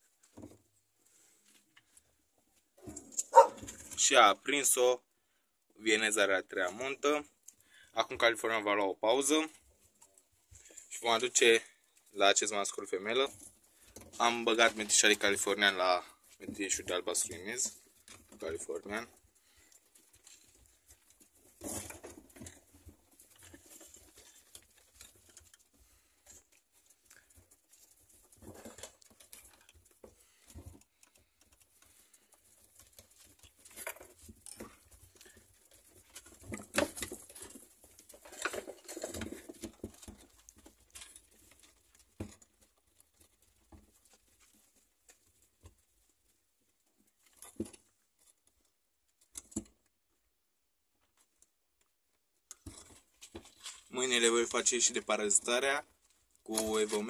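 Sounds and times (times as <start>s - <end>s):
rabbit paws pattering: 0.0s - 57.0s.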